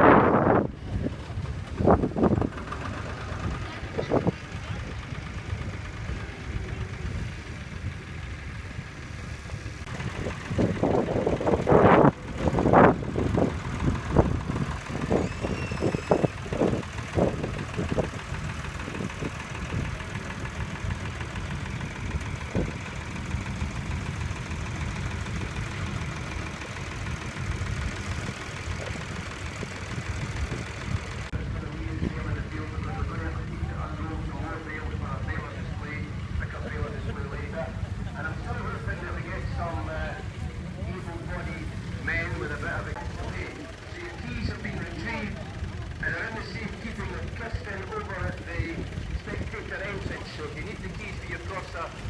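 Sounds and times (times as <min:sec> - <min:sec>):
irregular engine pulses: 0:00.0 - 0:52.0
tractor engines rumbling: 0:00.0 - 0:52.0.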